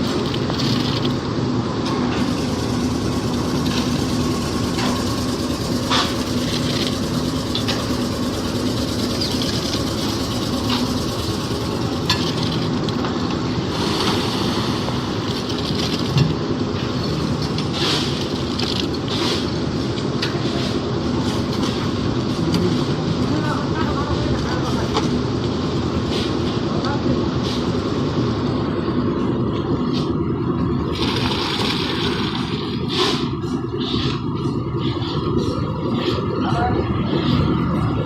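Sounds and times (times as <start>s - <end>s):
concrete mixer humming: 0.0s - 38.0s.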